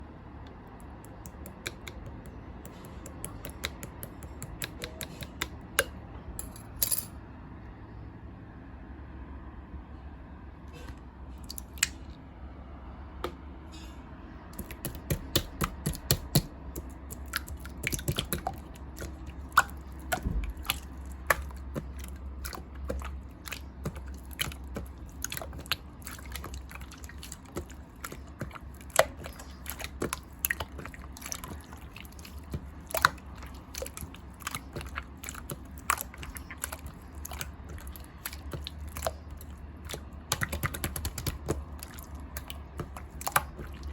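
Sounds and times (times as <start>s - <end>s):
low steady hum: 0.0s - 43.9s
slime squishing: 0.7s - 5.9s, 11.4s - 12.0s, 14.4s - 43.9s.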